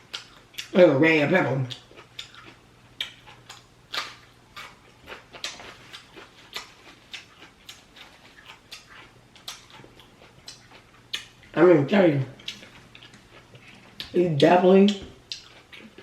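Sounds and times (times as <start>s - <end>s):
wet chewing and lip-smacking: 0.0s - 0.8s, 1.6s - 11.6s, 12.4s - 14.2s, 14.8s - 16.0s.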